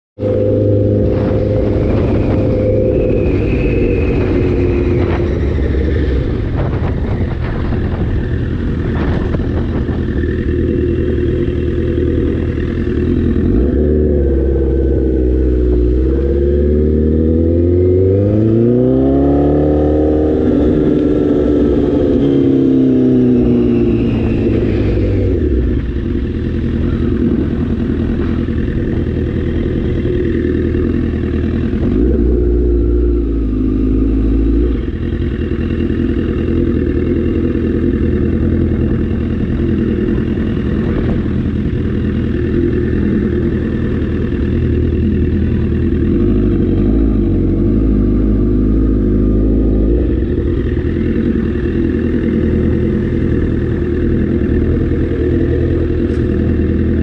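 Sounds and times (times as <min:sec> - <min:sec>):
wind rush over microphone: 0:00.2 - 0:34.1, 0:34.7 - 0:49.0
motorcycle engine running: 0:00.2 - 0:57.0.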